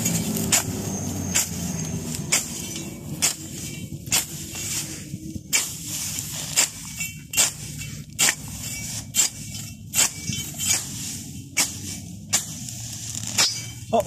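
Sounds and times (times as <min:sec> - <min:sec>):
machete slashing dry grass: 0:00.0 - 0:13.8.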